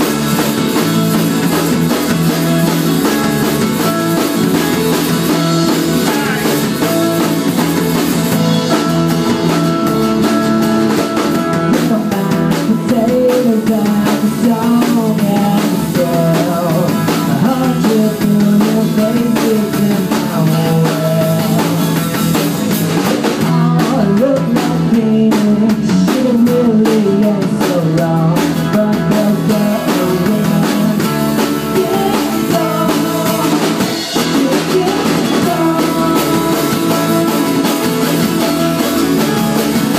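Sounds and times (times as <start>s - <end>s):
acoustic guitars strummed: 0.0s - 39.9s
drum kit: 0.0s - 39.9s.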